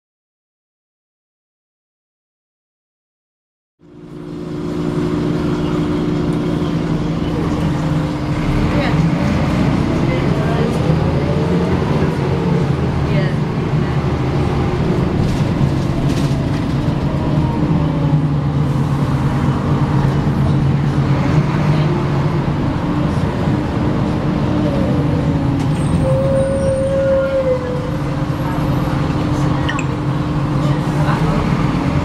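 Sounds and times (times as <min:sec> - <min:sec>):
bus engine running: 0:03.8 - 0:32.0.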